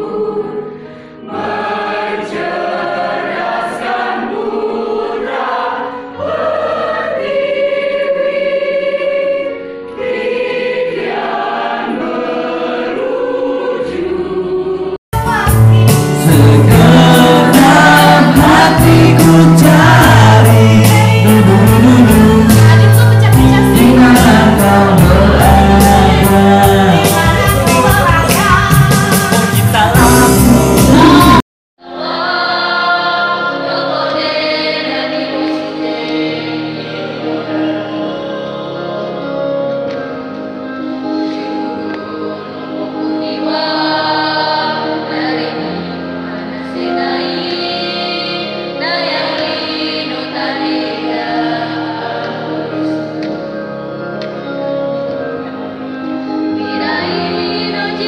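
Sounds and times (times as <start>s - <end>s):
choir singing unaccompanied: 0.0s - 39.7s, 40.9s - 53.6s, 55.7s - 58.0s
voices singing over keyboard: 0.0s - 58.0s.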